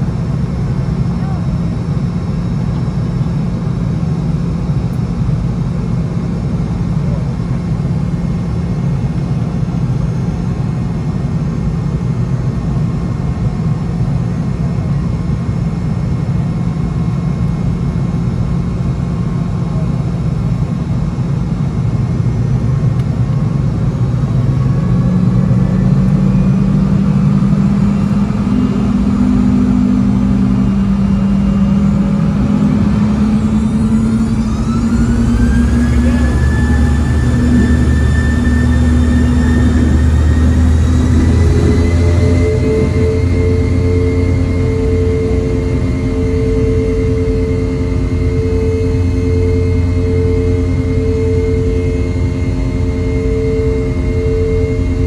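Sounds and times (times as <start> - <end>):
higher engine tone: 0.0 - 55.0
jet engines humming: 0.0 - 55.0.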